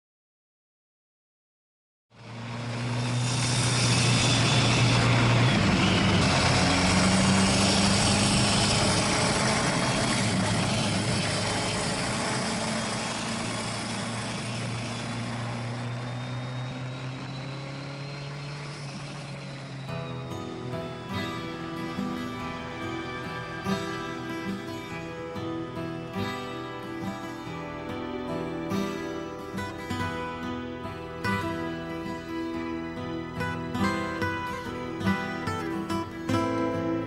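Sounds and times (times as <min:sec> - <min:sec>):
wind and road noise: 0:02.1 - 0:37.0
motorcycle engine running: 0:02.2 - 0:37.0.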